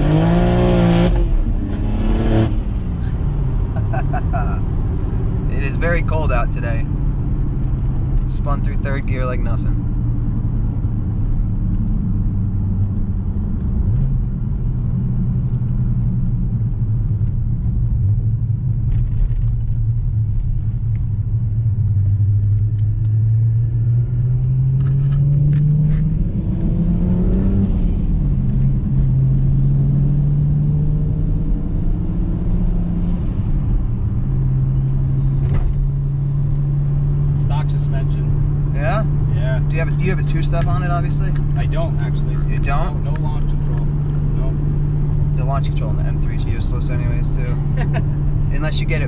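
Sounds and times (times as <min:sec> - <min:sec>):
car engine droning: 0:00.0 - 0:49.0
road rumble: 0:00.0 - 0:49.0.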